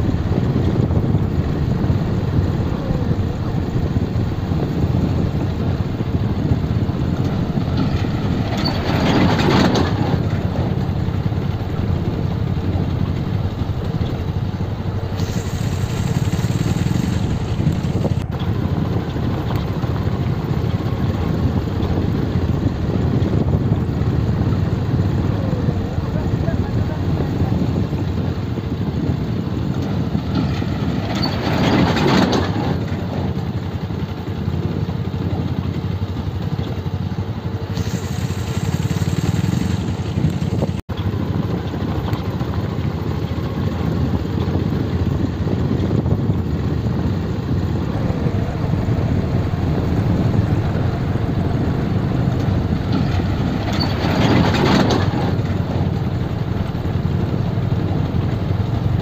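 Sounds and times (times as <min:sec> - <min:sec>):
motorcycle engines running: 0:00.0 - 0:59.0
rumbling riding on dirt road: 0:00.0 - 0:59.0.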